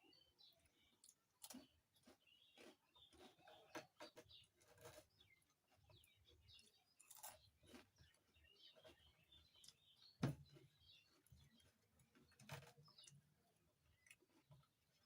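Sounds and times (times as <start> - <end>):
chewing potato chips: 0.5 - 15.0.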